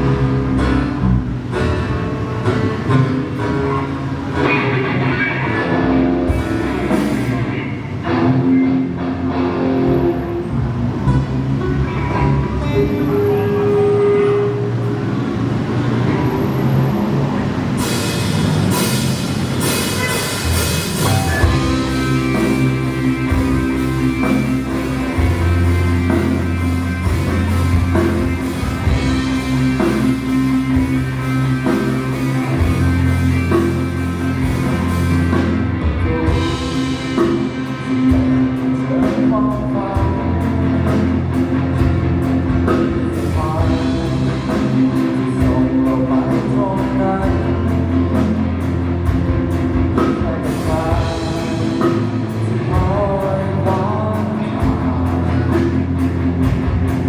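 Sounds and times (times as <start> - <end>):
bass guitar: 0.0 - 57.0
drum kit: 0.0 - 57.0
electric guitar: 0.0 - 57.0
person singing: 4.3 - 15.1, 19.6 - 48.7, 49.8 - 56.6.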